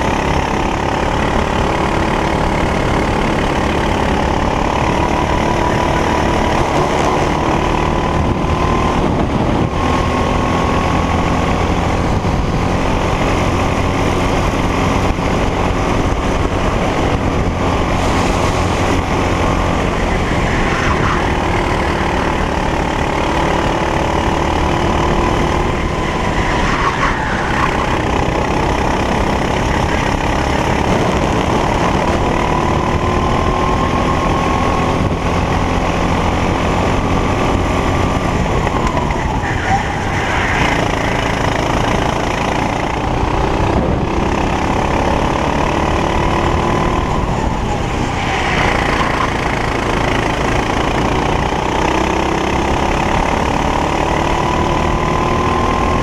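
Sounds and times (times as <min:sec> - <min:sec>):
go-kart engine revving: 0:00.0 - 0:56.0
other kart engines: 0:00.0 - 0:56.0.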